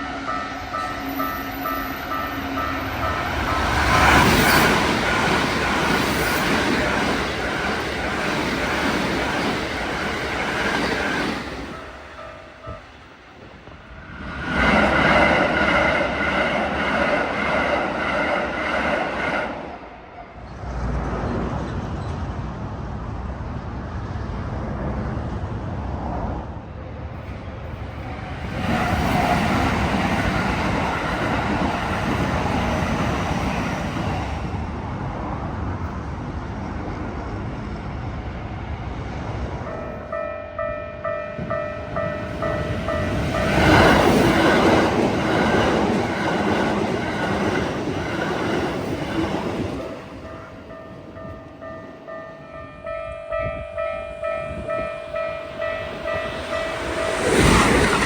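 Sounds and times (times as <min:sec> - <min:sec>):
train rumble: 0:00.0 - 0:58.0
trains passing at speed: 0:00.0 - 0:58.0.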